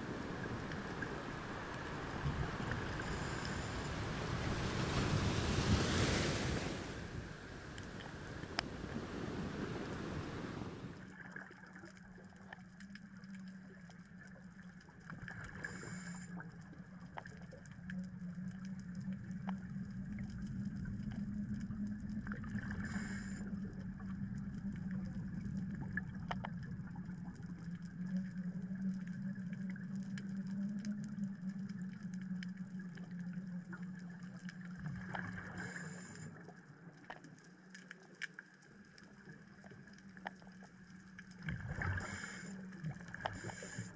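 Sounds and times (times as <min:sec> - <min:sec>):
low underwater hum: 0:00.0 - 0:43.9
water noise: 0:00.0 - 0:43.9.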